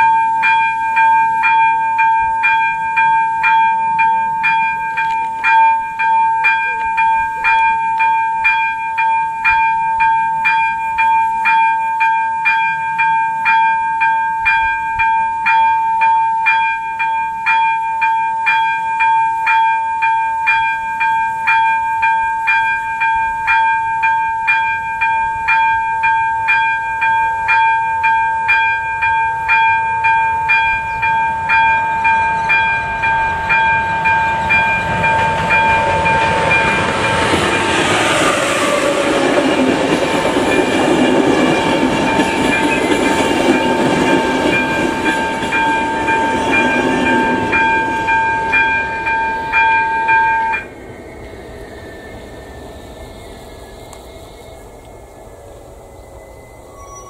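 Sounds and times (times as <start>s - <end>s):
level crossing bell ringing: 0.0s - 38.0s, 40.4s - 50.7s
train rumbling over crossing: 0.0s - 57.0s.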